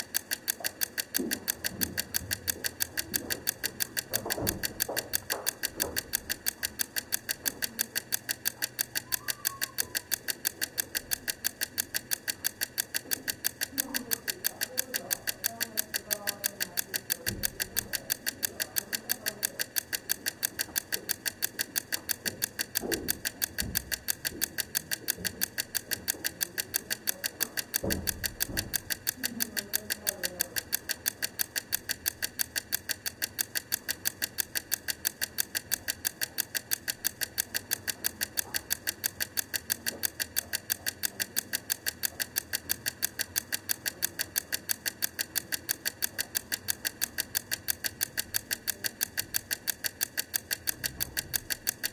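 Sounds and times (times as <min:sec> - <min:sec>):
egg timer ticking: 0:00.0 - 0:51.9.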